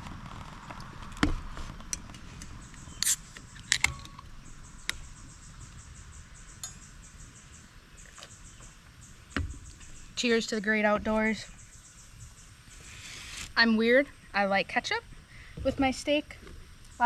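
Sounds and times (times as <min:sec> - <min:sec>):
insect chirping: 0:02.6 - 0:17.0.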